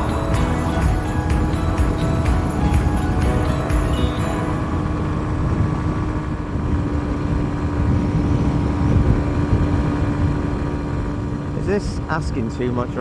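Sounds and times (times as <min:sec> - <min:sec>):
motorcycle engine droning: 0:00.0 - 0:13.0
wind rush on microphone: 0:01.1 - 0:12.2.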